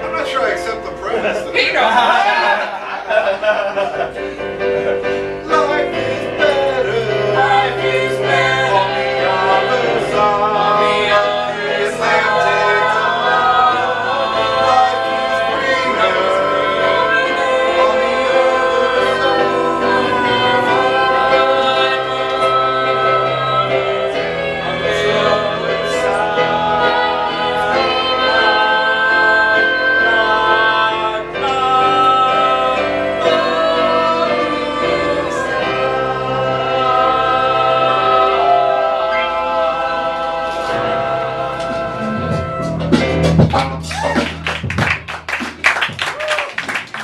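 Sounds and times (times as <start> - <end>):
choir singing held chords: 0.0 - 44.4.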